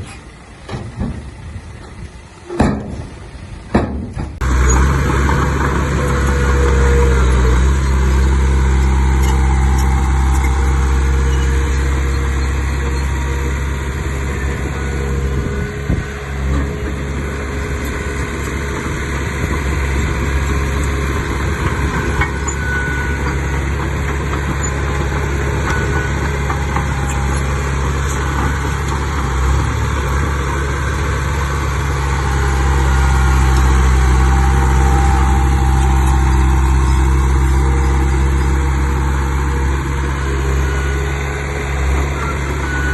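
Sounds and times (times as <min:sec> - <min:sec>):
earthmoving machine diesel engine: 0:00.0 - 0:42.9.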